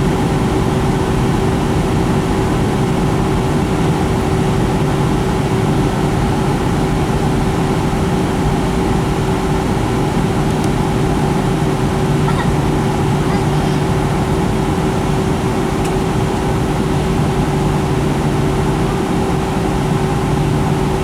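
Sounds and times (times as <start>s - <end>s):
airplane cabin drone: 0.0s - 21.0s.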